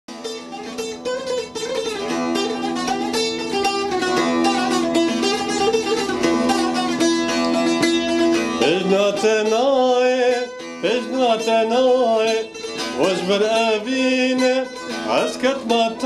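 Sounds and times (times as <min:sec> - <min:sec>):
plucked string instrument melody: 0:00.1 - 0:16.0.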